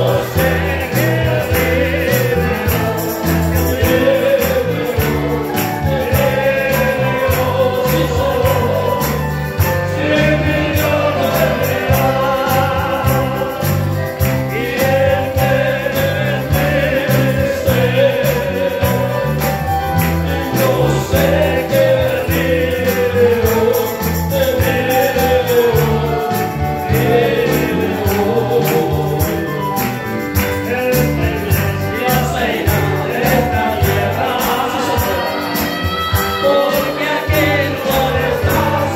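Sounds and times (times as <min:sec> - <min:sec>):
bass line: 0:00.0 - 0:38.9
group of voices singing: 0:00.0 - 0:38.9.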